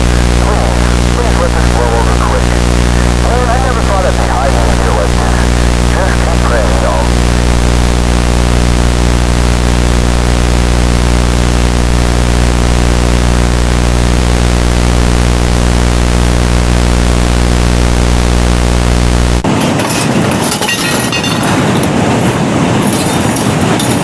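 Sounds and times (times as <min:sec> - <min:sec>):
low buzzing hum: 0:00.0 - 0:19.5
loud static hiss: 0:00.0 - 0:24.0.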